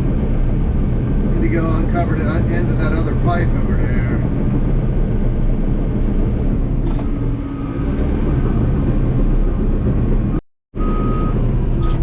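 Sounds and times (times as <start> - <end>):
bulldozer diesel engine rumbling: 0.0 - 12.0.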